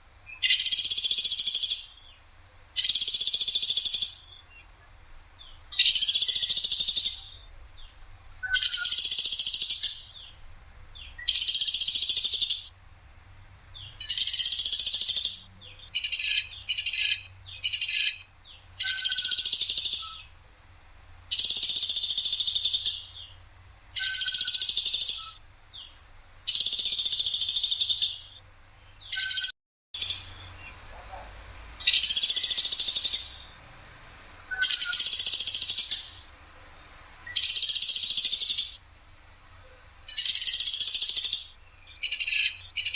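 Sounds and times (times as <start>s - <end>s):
woodpecker harsh high calls: 0.0s - 2.2s, 2.8s - 4.7s, 5.4s - 10.4s, 11.0s - 12.8s, 13.8s - 20.3s, 21.3s - 39.0s, 39.6s - 42.9s.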